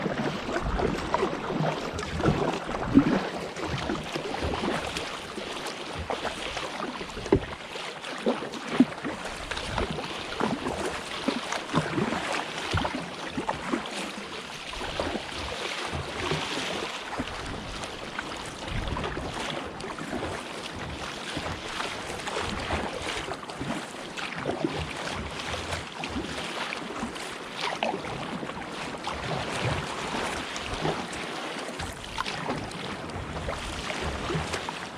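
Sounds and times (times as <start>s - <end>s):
water sloshing around a kayak: 0.0s - 34.9s.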